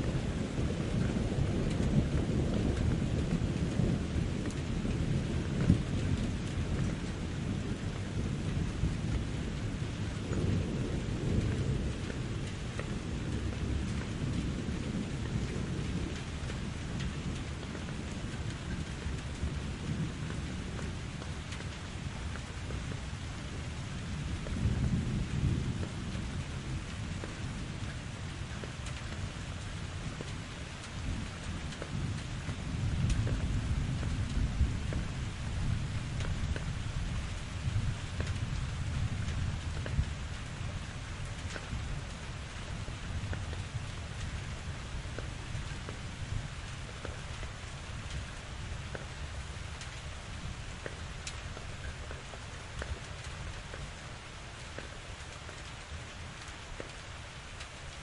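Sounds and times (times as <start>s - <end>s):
low rolling thunder: 0.0s - 58.0s
steady rain: 0.0s - 58.0s.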